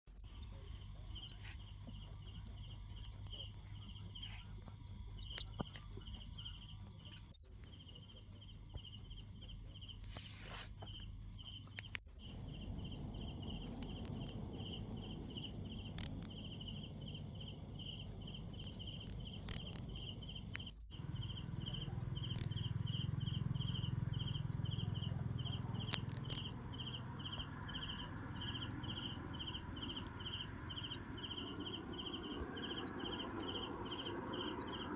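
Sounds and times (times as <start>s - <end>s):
cricket chirping: 0.1s - 34.9s
faint insect chirping: 0.1s - 34.9s.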